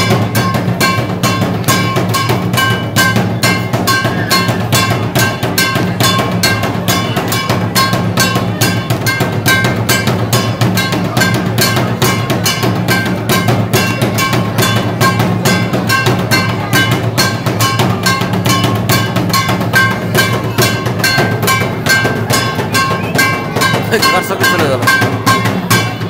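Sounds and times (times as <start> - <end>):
music with fast drumming: 0.0 - 26.0
ringing tone on beats: 0.0 - 26.0.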